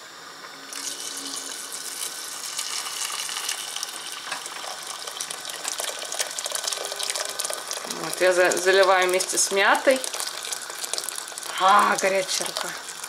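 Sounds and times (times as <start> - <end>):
water pouring into metal pot: 0.6 - 13.0.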